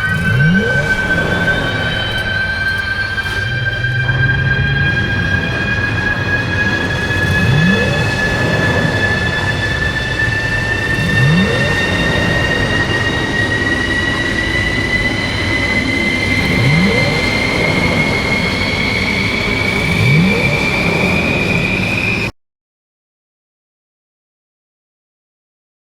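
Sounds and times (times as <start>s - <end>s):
dense steady rumble: 0.0s - 22.3s
low upward sweeps: 0.0s - 22.3s
jet-like whine rising: 0.0s - 22.4s.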